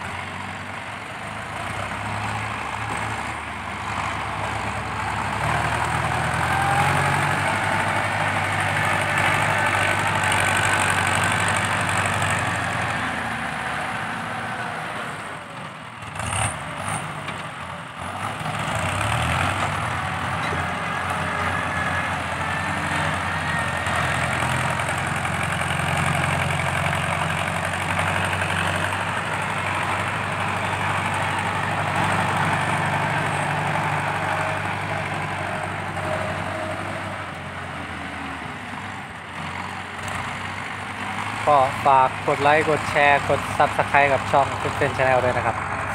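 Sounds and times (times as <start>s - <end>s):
tractor diesel engine working hard: 0.0s - 45.9s.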